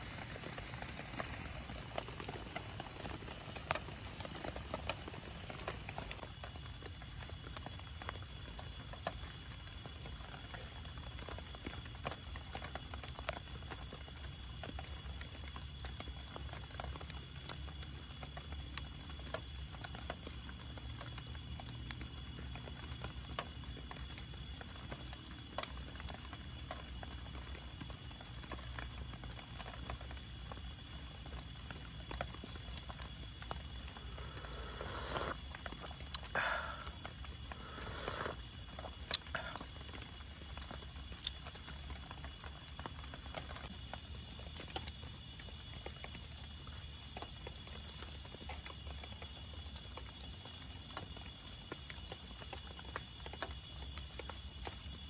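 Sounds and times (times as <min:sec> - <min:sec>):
night insects chorus: 0:00.0 - 0:55.0.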